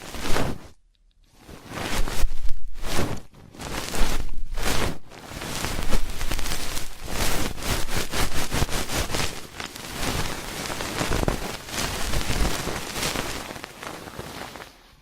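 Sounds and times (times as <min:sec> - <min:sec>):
ear pick scratching: 0:00.0 - 0:14.7.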